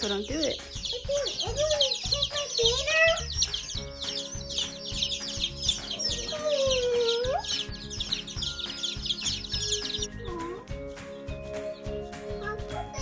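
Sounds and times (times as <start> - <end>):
background music with steady beat: 0.0 - 13.0
chicks peeping: 0.0 - 13.0.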